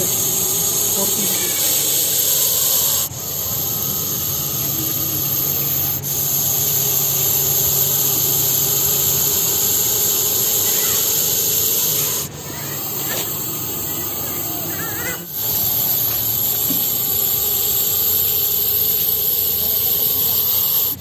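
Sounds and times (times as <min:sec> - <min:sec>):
snake hissing: 0:00.0 - 0:21.0.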